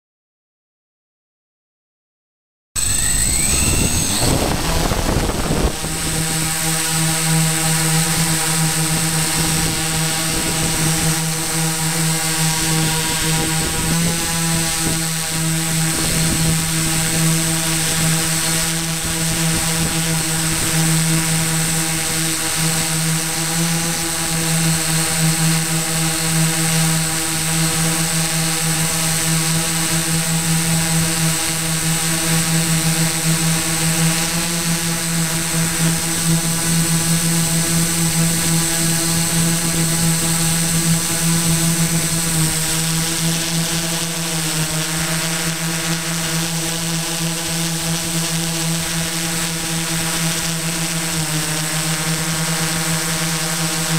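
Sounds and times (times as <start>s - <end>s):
drone propellers buzzing whine: 2.8s - 53.9s.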